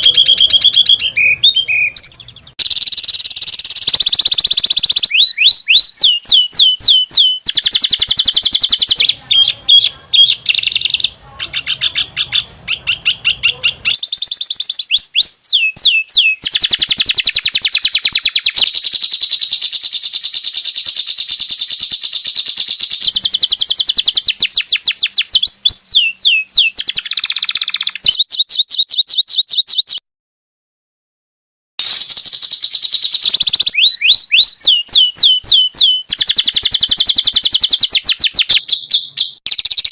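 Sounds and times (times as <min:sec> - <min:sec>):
recorded songbird song: 0:00.0 - 0:30.0, 0:31.8 - 0:39.9.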